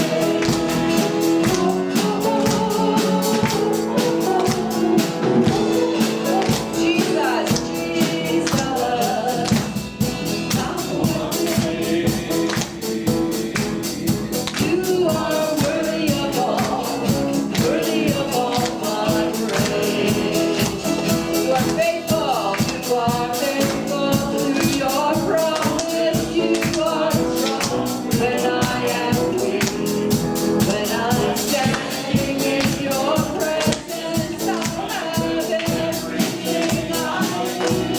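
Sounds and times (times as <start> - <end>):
live band playing upbeat song: 0.0 - 37.9
person singing: 0.0 - 37.9.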